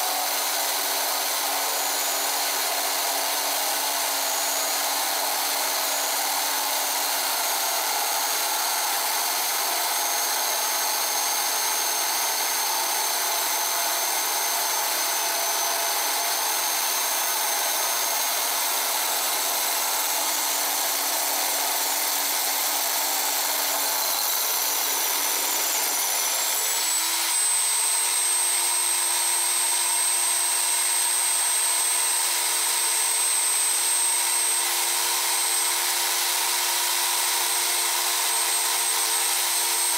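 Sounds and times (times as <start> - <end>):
drill bit grinding glass: 0.0 - 39.9
drill press motor hum and whine: 0.0 - 39.9.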